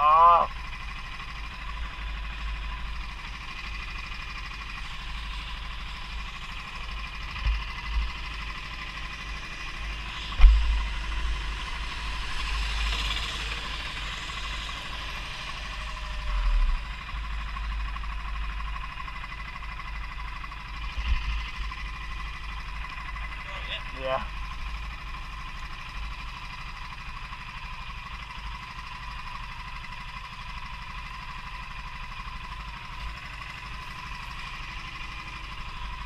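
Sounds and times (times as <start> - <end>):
go-kart engine running: 0.0 - 36.0.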